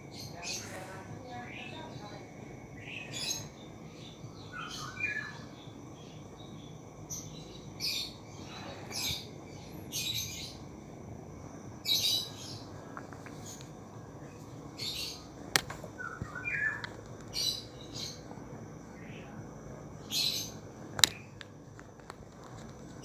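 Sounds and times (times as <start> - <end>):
birds chirping: 0.0 - 10.8, 11.4 - 19.4, 20.0 - 22.1.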